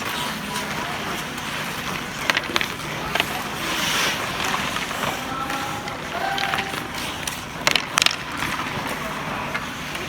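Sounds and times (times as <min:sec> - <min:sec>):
hall hubbub: 0:00.0 - 0:10.0
hockey sticks and puck clacking: 0:00.0 - 0:10.0
skate wheels rolling on rink floor: 0:00.0 - 0:10.0.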